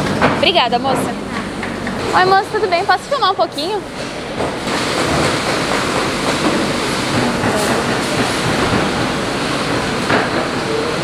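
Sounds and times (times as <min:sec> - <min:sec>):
factory machinery running: 0:00.0 - 0:11.0.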